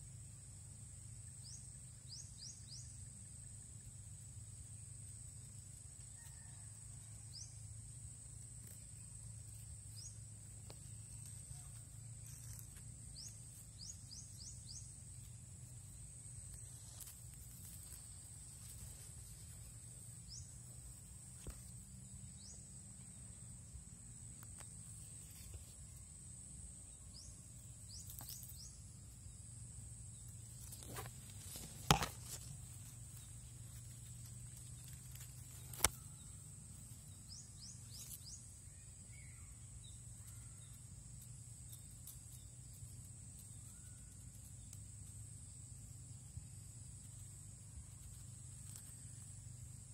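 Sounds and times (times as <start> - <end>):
insect drone: 0.0 - 49.9.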